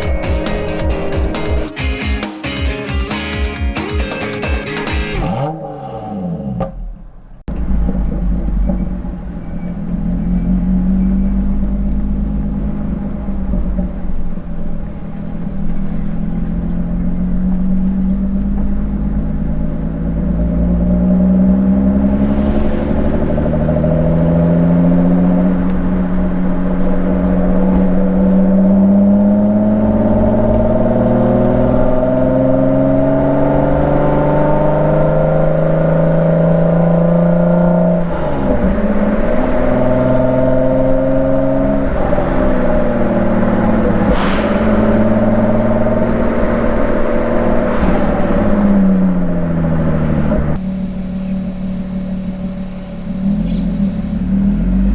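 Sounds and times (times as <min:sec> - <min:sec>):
car engine running: 0:00.0 - 0:02.0, 0:04.4 - 0:54.9.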